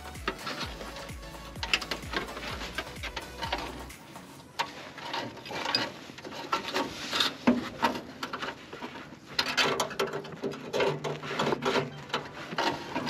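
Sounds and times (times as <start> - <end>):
wire rustling and scraping on metal: 0.0 - 13.0.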